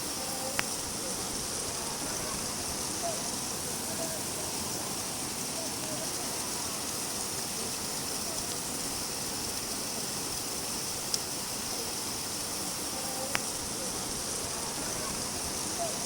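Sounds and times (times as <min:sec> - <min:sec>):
loud raindrops striking: 0:00.0 - 0:16.0
steady rain falling: 0:00.0 - 0:16.0.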